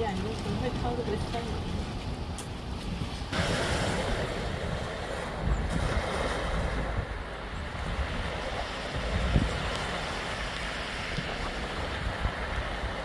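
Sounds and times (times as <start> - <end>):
sea waves on rocky shore: 0.0 - 13.0
wind rumbling on microphone: 0.0 - 13.0.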